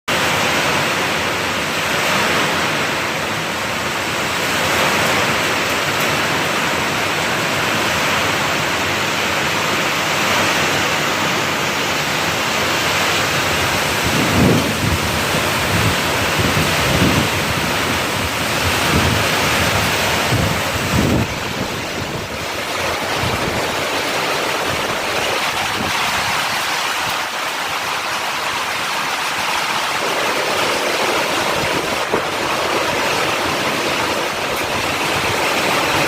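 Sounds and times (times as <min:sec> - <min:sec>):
heavy rain pouring: 0:00.1 - 0:36.0
wind gusting: 0:00.2 - 0:36.0.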